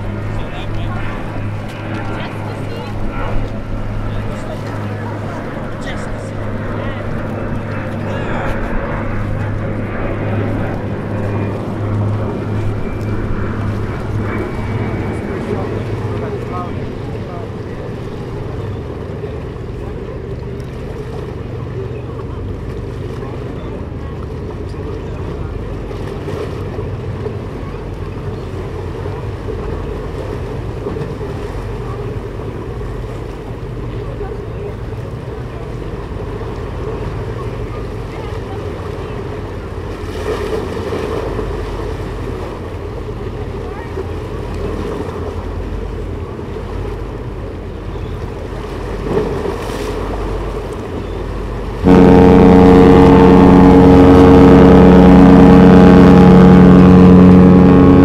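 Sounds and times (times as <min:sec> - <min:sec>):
low even rumble: 0:00.0 - 0:58.0
ship's horn deep chord: 0:00.0 - 0:58.0
water lapping: 0:00.0 - 0:58.0.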